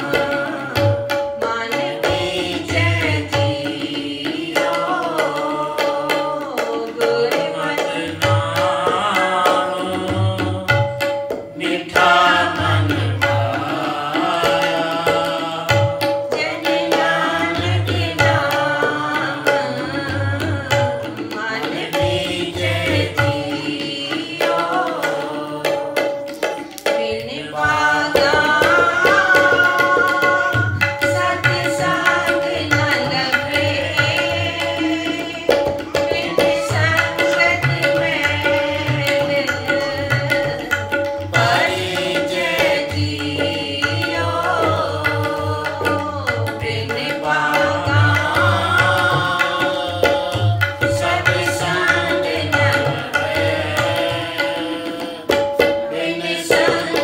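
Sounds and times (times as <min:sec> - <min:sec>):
tabla rhythm: 0:00.0 - 0:57.0.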